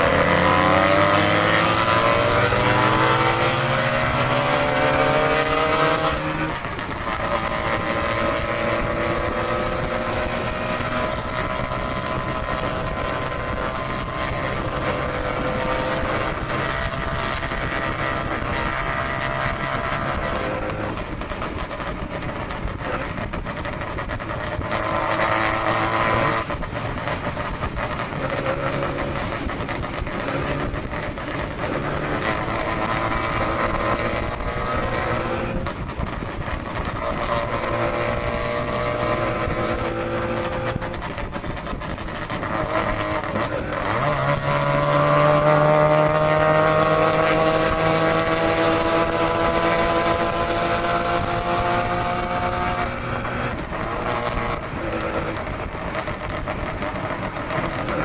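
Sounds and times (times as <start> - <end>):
rotary engine revving: 0.0 - 58.0
wind and road noise: 0.0 - 58.0.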